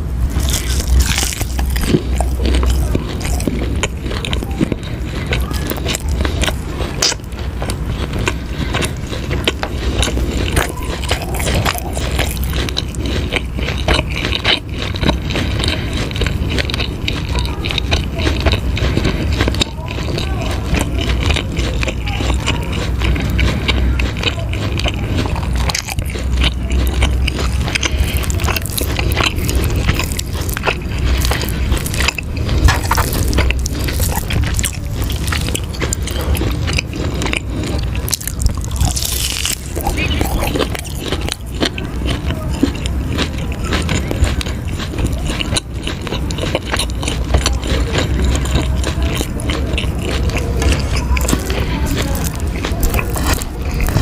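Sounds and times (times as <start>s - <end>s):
crunchy biting and chewing: 0.0s - 54.0s
steady low hum: 0.0s - 54.0s.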